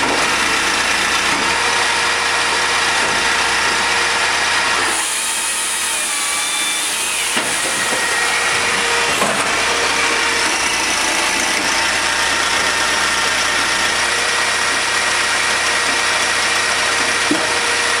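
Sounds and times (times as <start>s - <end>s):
extractor fan rushing and whining: 0.0s - 18.0s.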